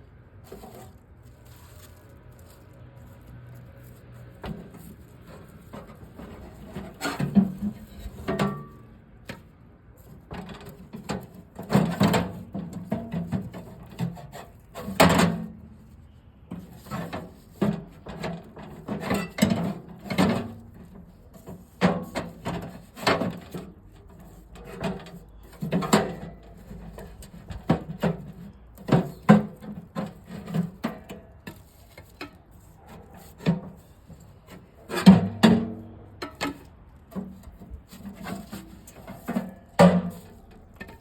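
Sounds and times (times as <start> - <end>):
scraping and rubbing: 0.4 - 35.2, 35.8 - 41.0.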